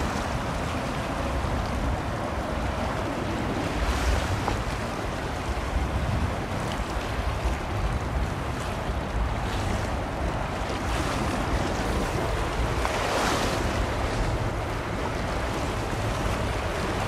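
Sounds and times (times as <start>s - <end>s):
sea waves rushing: 0.0s - 17.0s
wind buffeting microphone: 0.0s - 17.0s.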